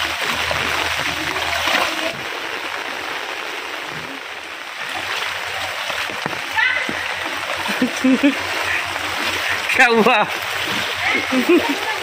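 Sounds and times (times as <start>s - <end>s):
heavy rain: 0.0s - 12.0s
running splashing water: 0.0s - 12.0s.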